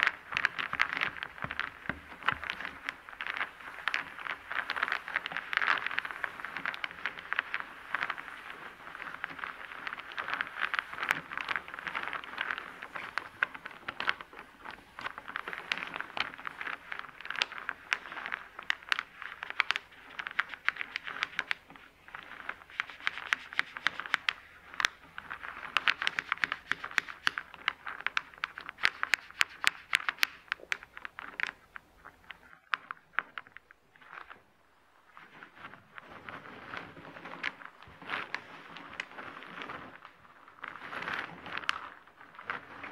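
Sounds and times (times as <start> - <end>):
wooden discs clattering: 0.0 - 36.2.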